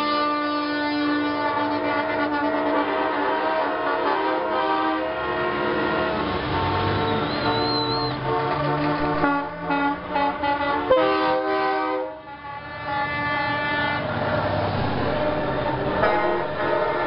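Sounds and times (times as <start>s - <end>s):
truck air horns blowing: 0.0s - 17.0s.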